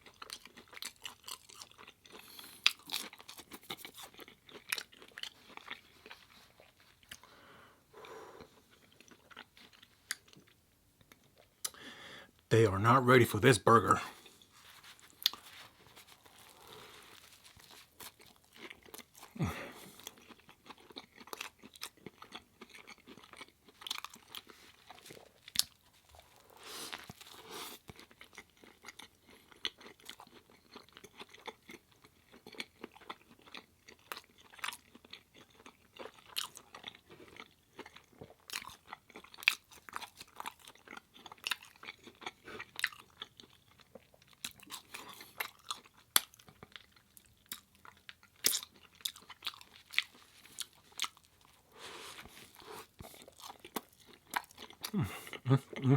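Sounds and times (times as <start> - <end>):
person chewing crunchy food: 0.0 - 12.0, 13.8 - 55.9.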